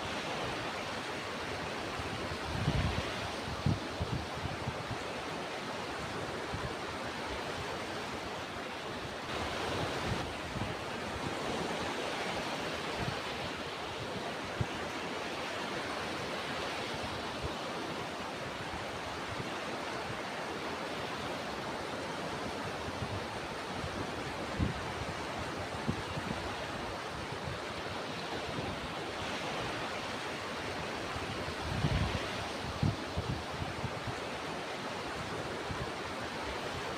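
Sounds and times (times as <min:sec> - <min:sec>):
ocean surf washing: 0:00.0 - 0:36.9.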